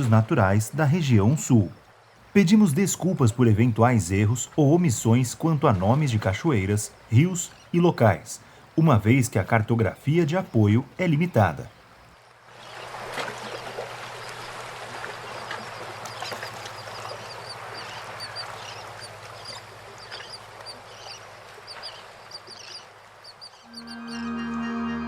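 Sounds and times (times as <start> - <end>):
water rushing: 0.0 - 23.2.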